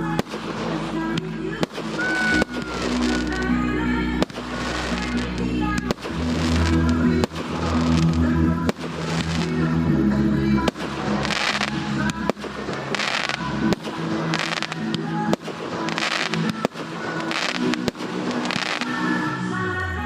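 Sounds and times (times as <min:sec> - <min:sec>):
fireworks hissing and crackling: 0:00.0 - 0:03.6, 0:04.2 - 0:09.7, 0:10.7 - 0:19.5
music playing: 0:00.0 - 0:20.0.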